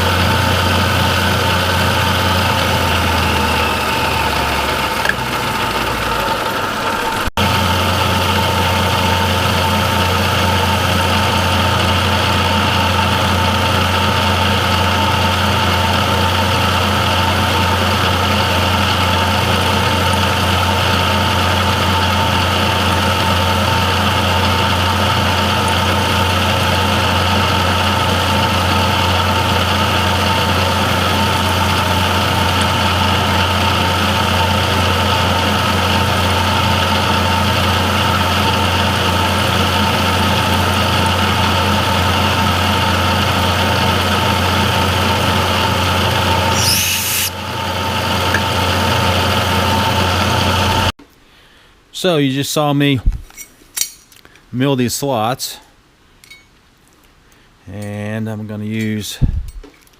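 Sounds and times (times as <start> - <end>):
milling machine cutting metal: 0.0 - 50.9.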